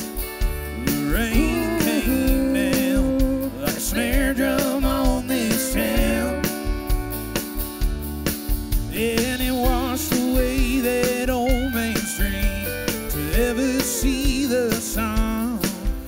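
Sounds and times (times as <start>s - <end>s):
country band playing live: 0.0s - 16.0s
steady drum beat: 0.0s - 16.0s.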